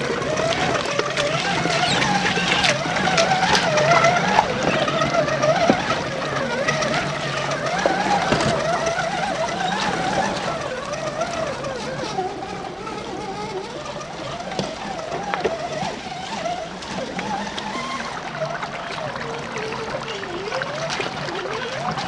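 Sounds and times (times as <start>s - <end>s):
electric motor and gears whining: 0.0s - 22.0s.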